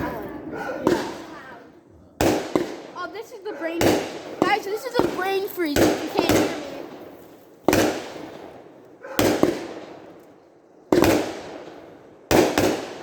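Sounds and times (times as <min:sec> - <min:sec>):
firework cake bangs: 0:00.0 - 0:10.2, 0:10.9 - 0:13.0.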